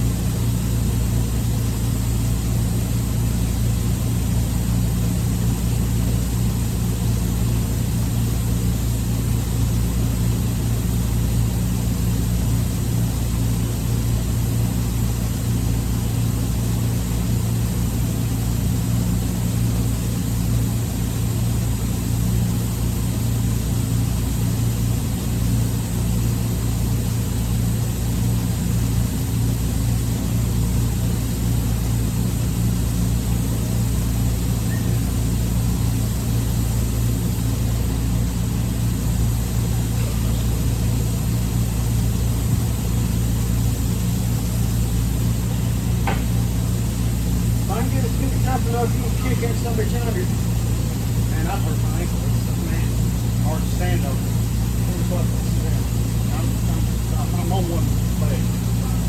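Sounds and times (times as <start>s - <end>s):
low mechanical drone: 0.0s - 59.0s.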